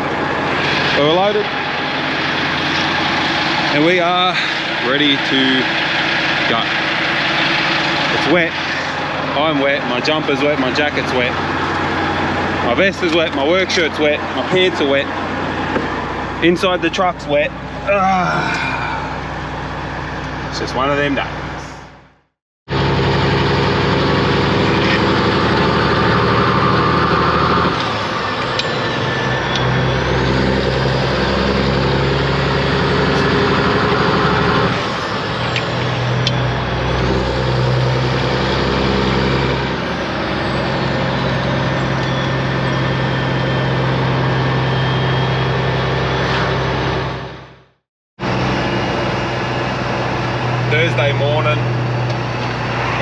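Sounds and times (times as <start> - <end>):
truck diesel engine running: 0.0 - 53.0.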